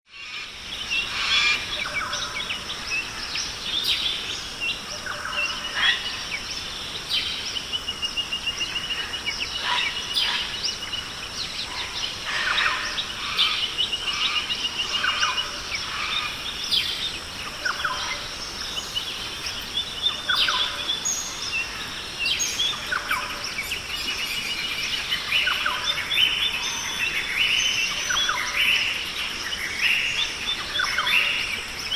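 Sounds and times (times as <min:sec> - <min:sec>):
birds chirping and whistling: 0:00.1 - 0:31.9.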